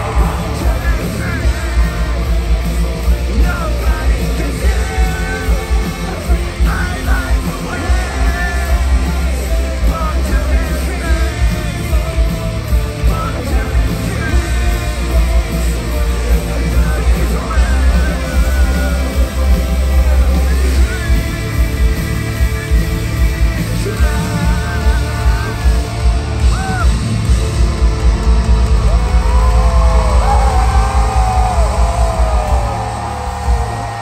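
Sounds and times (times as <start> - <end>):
person singing: 0.0 - 27.3
heavy drums: 0.0 - 34.0
live rock band playing: 0.0 - 34.0.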